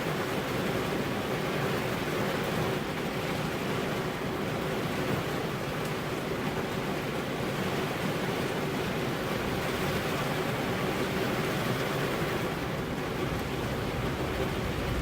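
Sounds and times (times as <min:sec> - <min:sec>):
rain on window glass: 0:00.0 - 0:15.0.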